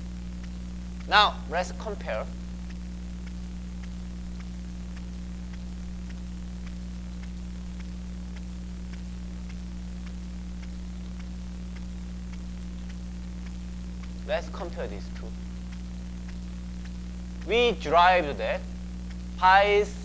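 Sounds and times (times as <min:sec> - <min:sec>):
faint ticks: 0:00.0 - 0:20.0
low electrical hum with hiss: 0:00.0 - 0:20.0.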